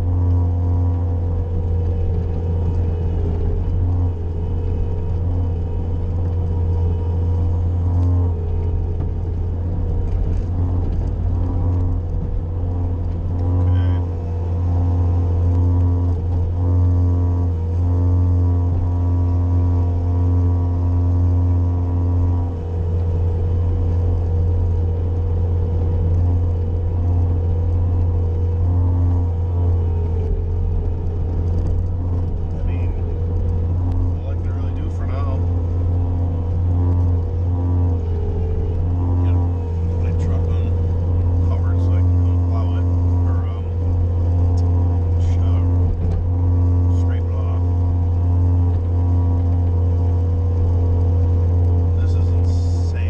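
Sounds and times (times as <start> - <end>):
loader engine running under load: 0.0 - 53.0.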